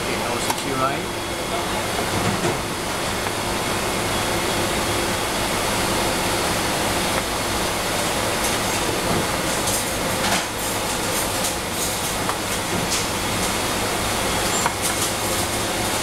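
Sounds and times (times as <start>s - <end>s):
loud mechanical din with hum: 0.0s - 16.0s.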